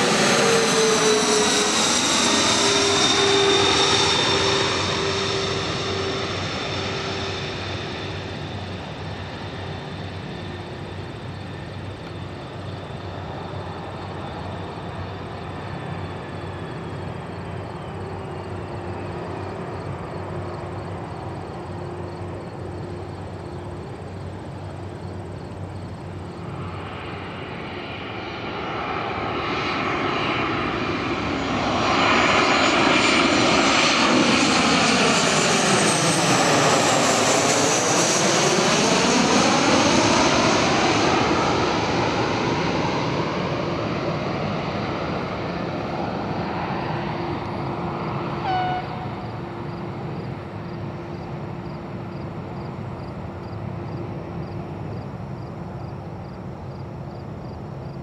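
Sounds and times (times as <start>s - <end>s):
jet plane passing overhead: 0.0s - 58.0s.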